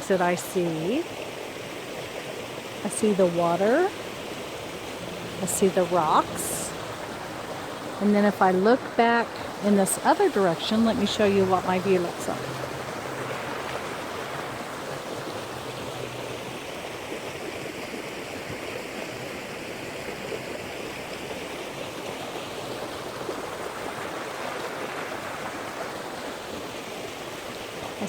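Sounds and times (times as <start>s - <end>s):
creek water running over rocks: 0.0s - 28.0s.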